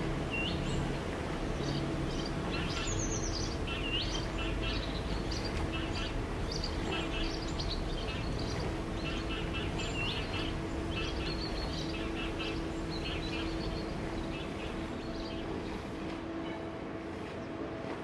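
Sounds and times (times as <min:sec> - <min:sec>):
small birds chirping: 0:01.5 - 0:16.1.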